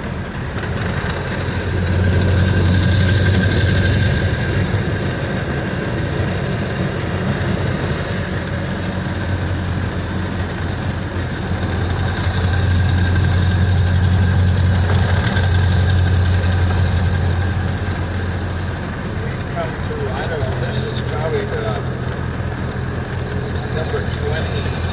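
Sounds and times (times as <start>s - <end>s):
car engine running: 0.0s - 24.9s.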